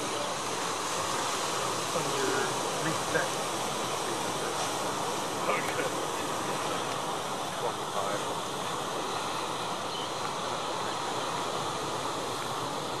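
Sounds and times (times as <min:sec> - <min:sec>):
ocean waves washing on beach: 0:00.0 - 0:13.0.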